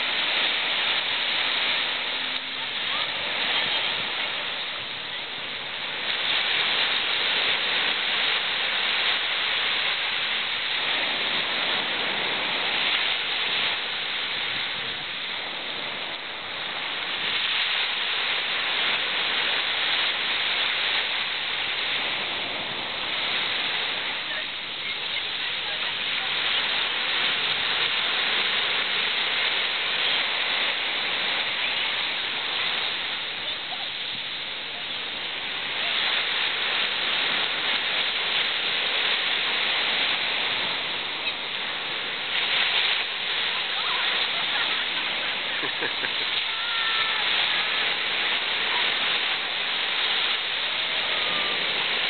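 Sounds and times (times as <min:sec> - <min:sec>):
small waves breaking on beach: 0:00.0 - 0:52.0.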